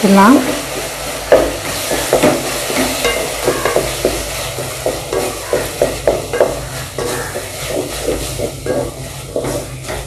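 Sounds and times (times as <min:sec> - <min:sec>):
paste sizzling in oil: 0:00.0 - 0:10.0
spatula scraping metal pot: 0:01.3 - 0:10.0.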